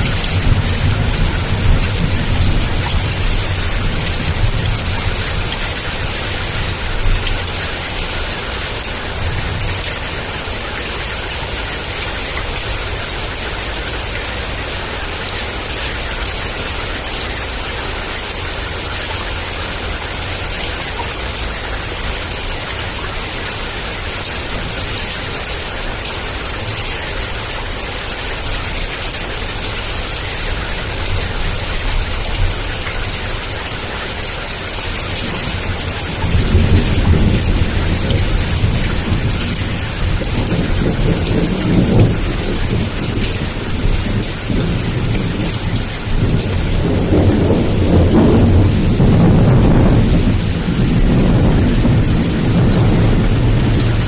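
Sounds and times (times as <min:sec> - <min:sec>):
low thunder rumble: 0:00.0 - 0:17.7, 0:18.6 - 0:54.0
heavy rain downpour: 0:00.0 - 0:54.0.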